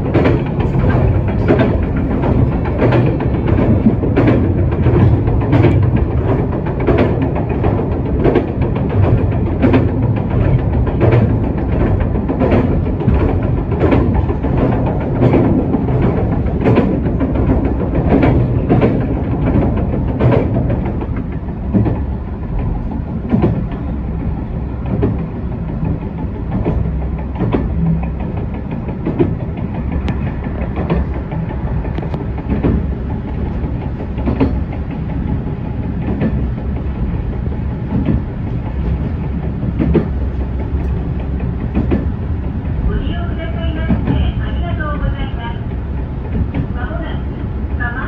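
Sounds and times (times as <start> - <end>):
wheels clicking over rail joints: 0.0 - 47.8
railcar rumble: 0.0 - 48.0.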